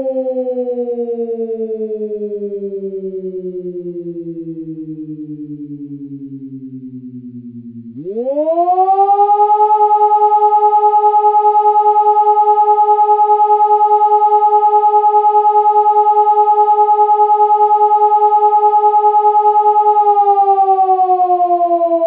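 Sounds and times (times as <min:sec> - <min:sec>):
electronic warning siren: 0:00.0 - 0:22.0.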